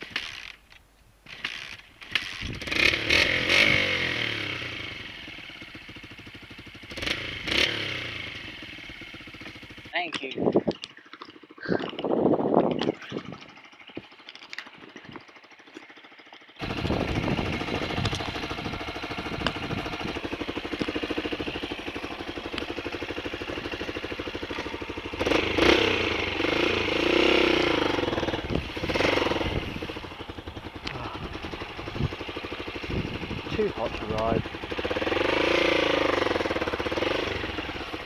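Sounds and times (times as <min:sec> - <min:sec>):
dirt bike engine starting and revving: 0:00.0 - 0:00.6, 0:01.2 - 0:38.0.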